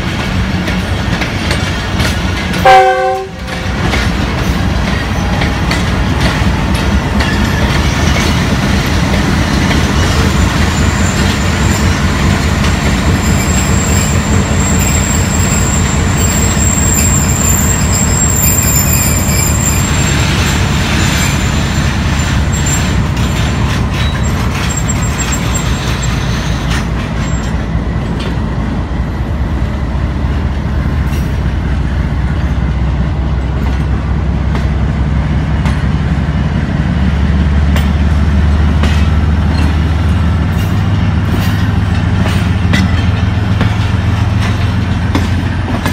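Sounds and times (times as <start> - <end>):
train coaches rolling on rails: 0.0 - 45.9.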